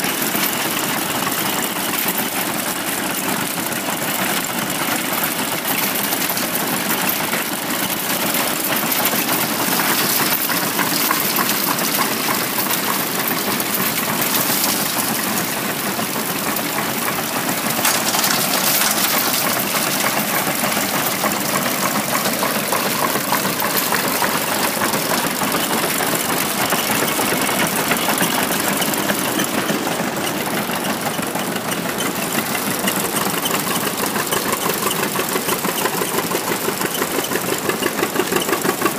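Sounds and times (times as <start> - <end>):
engine running: 0.0 - 38.9
threshing machine clattering: 0.0 - 38.9.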